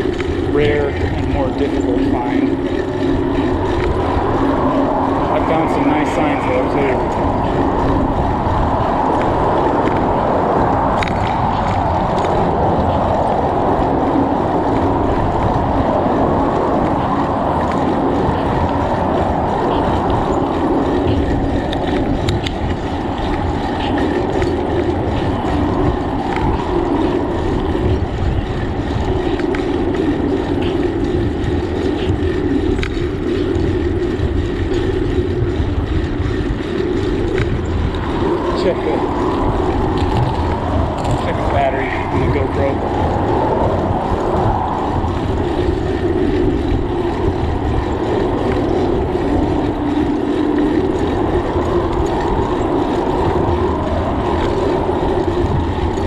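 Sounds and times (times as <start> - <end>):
tyre noise on road: 0.0 - 56.0
wind rushing over microphone: 0.0 - 56.0.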